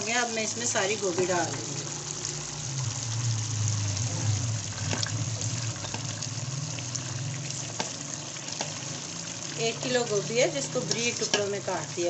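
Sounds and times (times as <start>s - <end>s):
pot simmering hiss: 0.0s - 12.0s.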